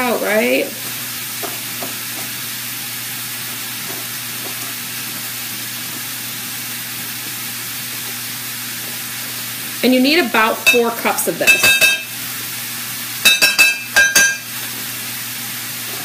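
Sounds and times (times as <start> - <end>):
sausage sizzling in a frying pan: 0.0 - 16.0.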